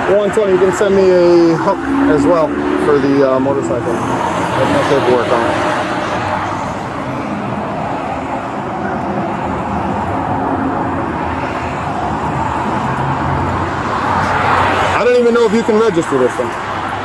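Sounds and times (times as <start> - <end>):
highway traffic noise: 0.0 - 17.0.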